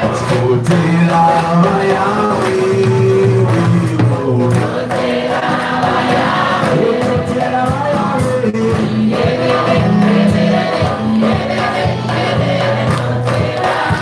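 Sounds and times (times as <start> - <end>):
choir singing gospel song: 0.0 - 14.0
drum kit beat: 0.0 - 14.0
live band playing: 0.0 - 14.0.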